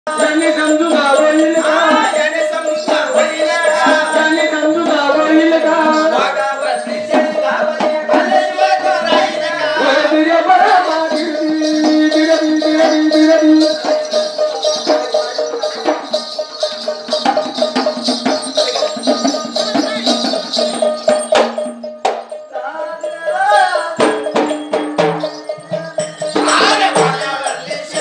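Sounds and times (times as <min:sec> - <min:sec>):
jingling rattling percussion: 0:00.1 - 0:28.0.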